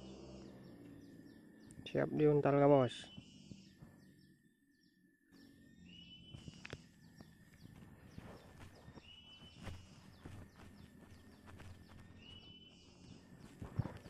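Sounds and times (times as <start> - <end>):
birds chirping and calling: 0.0 - 14.0
whistled bird notes: 0.0 - 14.0.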